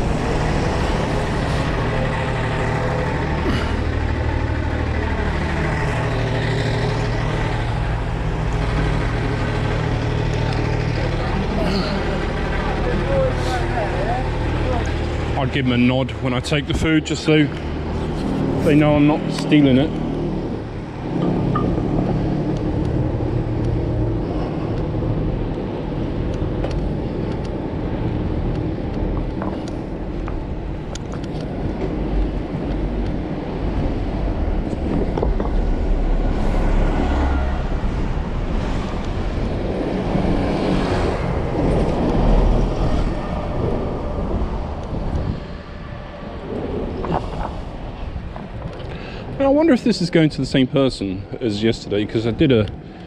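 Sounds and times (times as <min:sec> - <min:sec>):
street traffic noise: 0:00.0 - 0:53.0
vehicles passing: 0:00.0 - 0:53.0.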